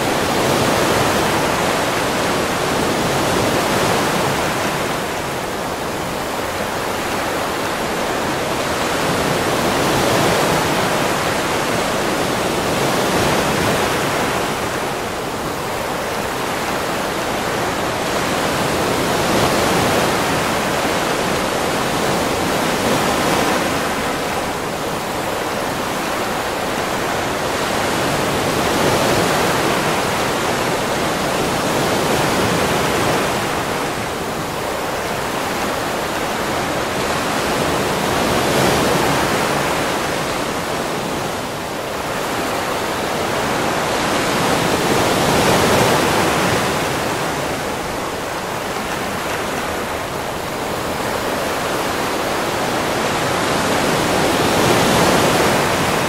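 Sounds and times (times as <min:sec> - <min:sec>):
ocean waves washing up a beach: 0:00.0 - 0:56.0.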